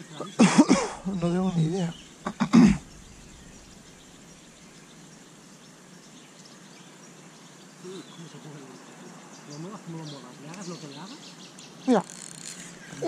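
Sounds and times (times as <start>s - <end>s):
open-air river ambience: 0.0s - 13.0s.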